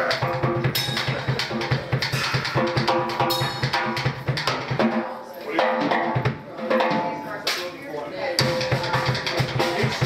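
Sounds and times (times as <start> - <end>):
drum kit fast beat: 0.0 - 7.2, 8.4 - 10.0.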